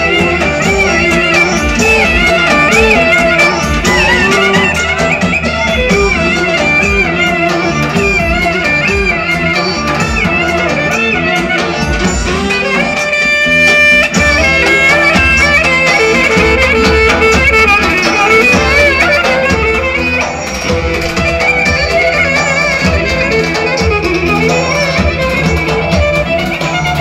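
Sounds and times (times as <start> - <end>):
drum beat: 0.0 - 27.0
ornamented dance melody: 0.0 - 27.0.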